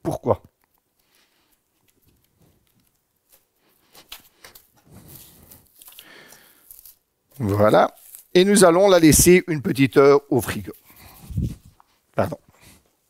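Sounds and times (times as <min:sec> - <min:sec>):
cling film crinkling: 0:00.5 - 0:12.1.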